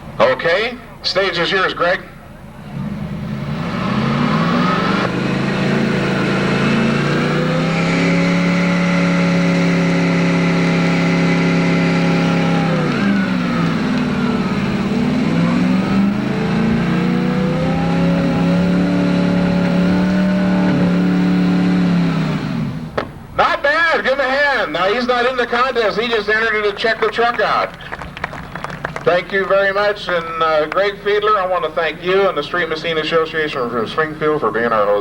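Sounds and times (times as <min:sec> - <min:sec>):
truck engine revving high: 0:00.0 - 0:34.5.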